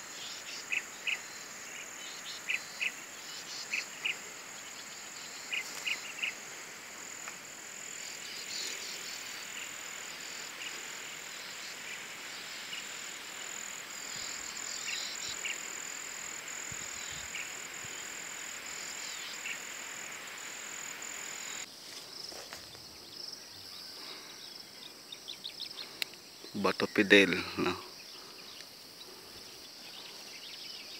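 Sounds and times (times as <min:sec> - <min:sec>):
faint outdoor hiss: 0:00.0 - 0:30.9
insects droning: 0:00.0 - 0:30.9
short insect chirps: 0:00.0 - 0:30.9.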